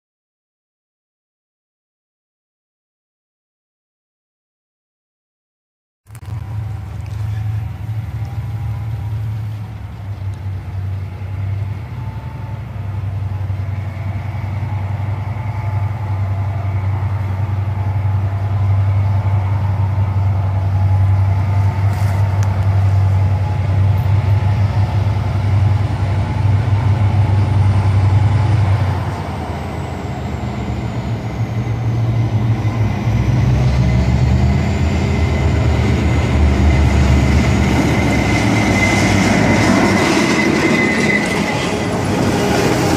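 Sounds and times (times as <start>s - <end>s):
diesel locomotive engines droning: 6.1s - 42.9s.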